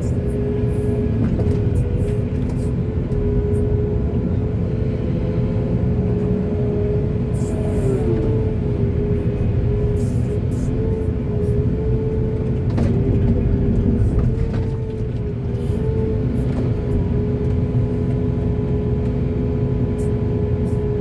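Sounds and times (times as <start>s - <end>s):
excavator diesel engine rumbling: 0.0s - 21.0s
steady engine whine: 0.0s - 21.0s.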